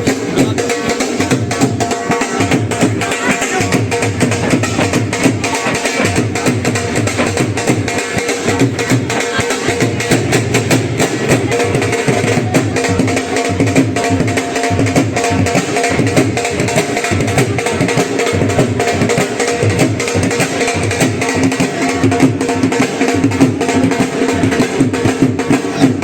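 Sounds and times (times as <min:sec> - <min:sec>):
instrumental music with percussion beat: 0:00.0 - 0:26.0.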